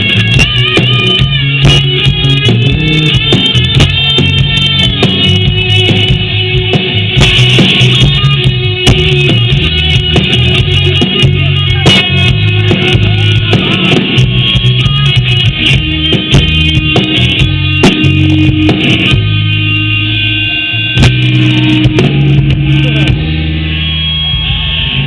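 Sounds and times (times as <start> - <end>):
bass line: 0.0 - 25.0
drum kit: 0.0 - 25.0
electric guitar: 0.0 - 25.0.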